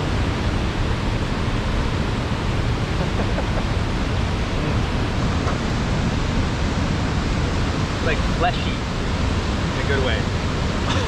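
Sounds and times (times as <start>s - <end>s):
fast-flowing water rushing: 0.0s - 11.0s.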